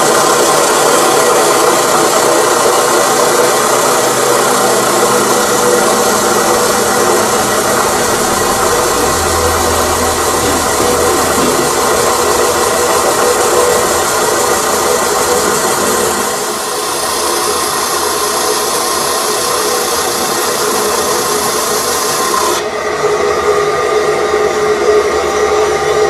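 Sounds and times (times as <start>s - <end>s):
lathe tool cutting metal: 0.0s - 26.0s
steady machine hum: 0.0s - 26.0s.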